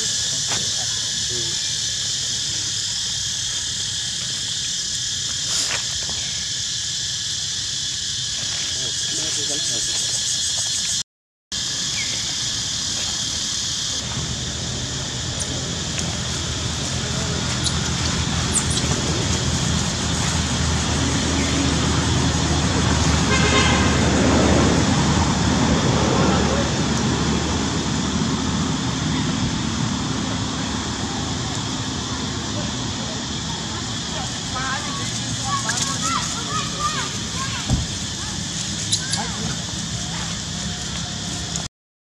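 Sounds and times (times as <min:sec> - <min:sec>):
high-pitched insect drone: 0:00.0 - 0:11.0, 0:11.6 - 0:41.7
road traffic noise: 0:00.0 - 0:41.7.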